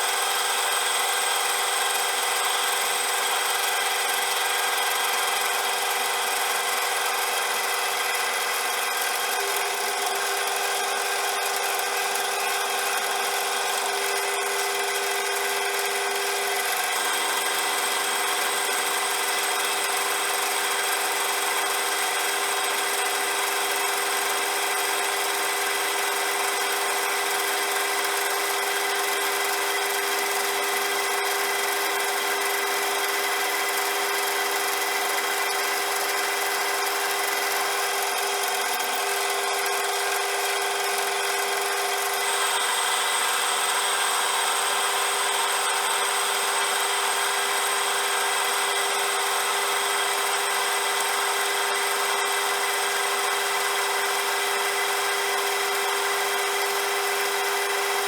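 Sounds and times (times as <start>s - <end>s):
metal lathe running: 0.3s - 58.0s.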